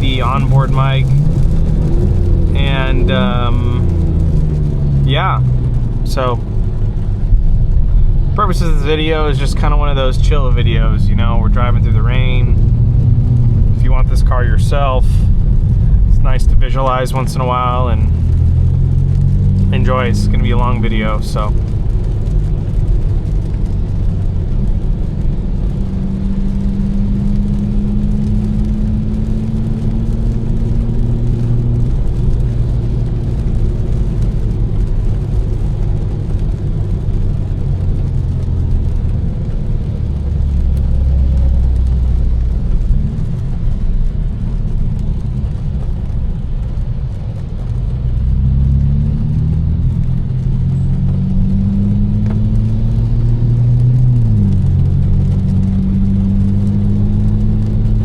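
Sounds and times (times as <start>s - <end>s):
car engine under light throttle: 0.0s - 58.0s
tyre noise on wet road: 0.0s - 58.0s.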